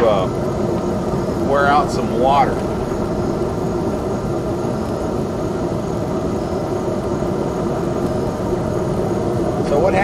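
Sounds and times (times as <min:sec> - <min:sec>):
low droning hum: 0:00.0 - 0:10.0.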